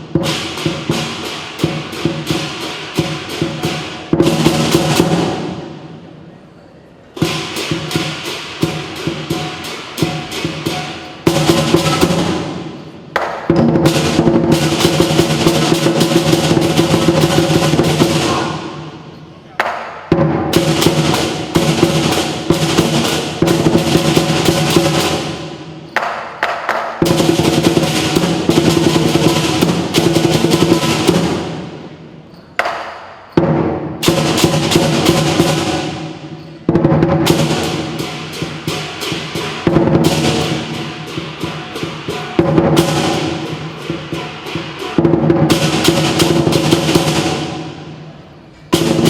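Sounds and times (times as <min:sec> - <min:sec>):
crashing cymbals: 0:00.0 - 0:06.0, 0:07.2 - 0:19.4, 0:20.6 - 0:25.9, 0:27.0 - 0:49.0
big drum rapid strokes: 0:00.0 - 0:06.1, 0:07.1 - 0:49.0.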